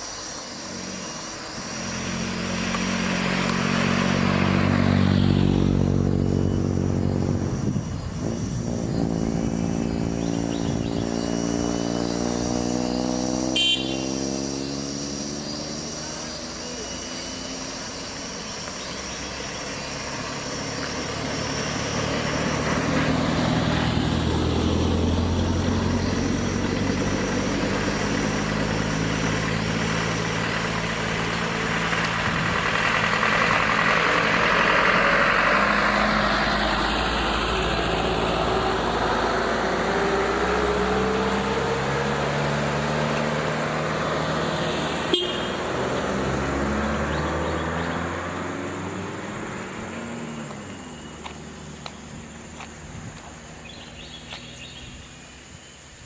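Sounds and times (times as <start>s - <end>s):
vehicle engine running: 0.0s - 55.9s
tyre and road noise: 0.0s - 56.0s.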